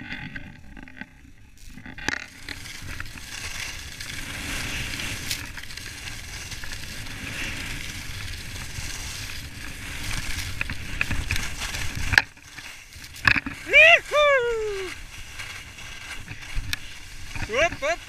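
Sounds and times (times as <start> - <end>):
skis scraping on snow: 0.0 - 18.0.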